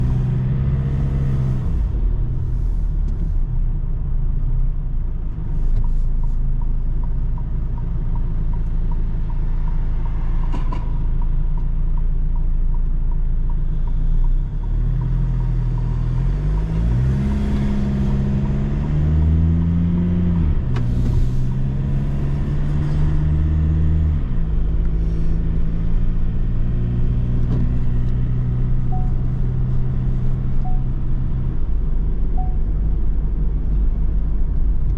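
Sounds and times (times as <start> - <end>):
van engine droning: 0.0 - 34.9.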